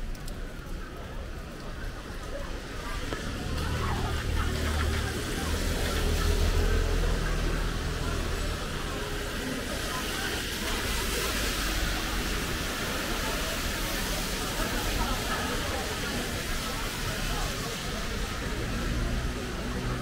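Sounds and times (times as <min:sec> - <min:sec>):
rain hissing: 0:00.0 - 0:20.0
tyres on wet road: 0:00.0 - 0:20.0
passing vehicle rumble: 0:02.8 - 0:20.0.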